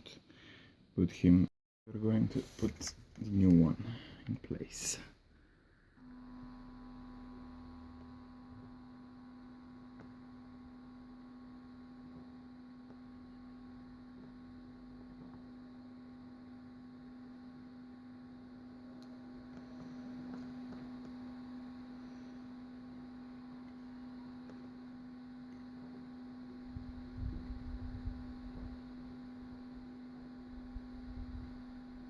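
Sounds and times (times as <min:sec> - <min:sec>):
soldering gun humming: 0:02.8 - 0:32.0.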